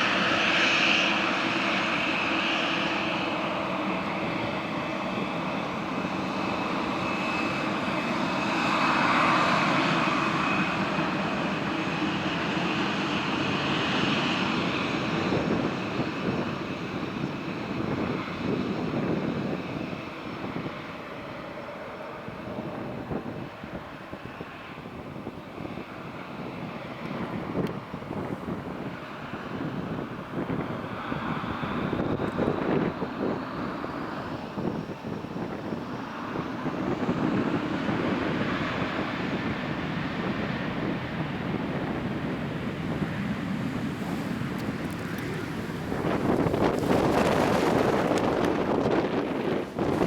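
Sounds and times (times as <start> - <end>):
jet engines at takeoff: 0.0 - 50.0
wind buffeting microphone: 0.0 - 50.0.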